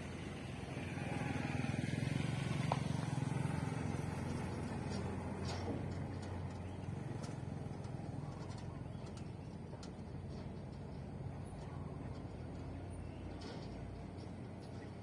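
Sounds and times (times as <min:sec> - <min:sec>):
truck diesel engines droning: 0:00.0 - 0:15.0.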